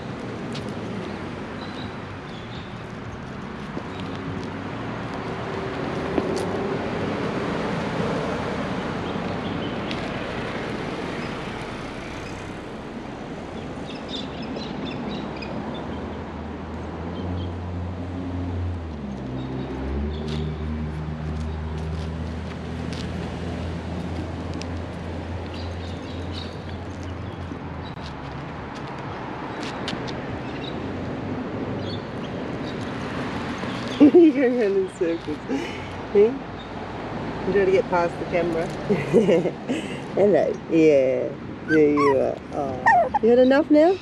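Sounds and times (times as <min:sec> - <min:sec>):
outdoor noise: 0:00.0 - 0:44.0.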